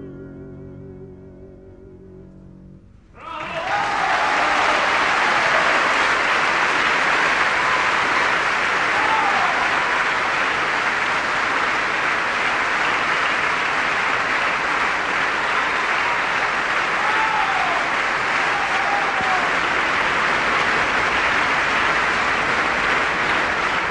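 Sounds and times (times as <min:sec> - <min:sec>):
audience applauding: 0:03.2 - 0:23.9.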